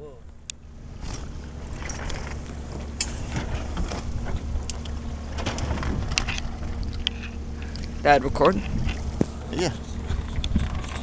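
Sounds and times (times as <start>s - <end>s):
wind rumble on microphone: 0.0s - 11.0s
light clicks and rustles: 0.3s - 11.0s.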